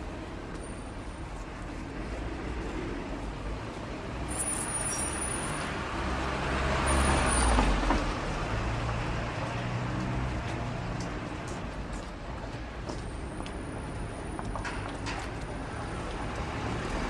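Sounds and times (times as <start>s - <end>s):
road traffic roar: 0.0s - 17.0s.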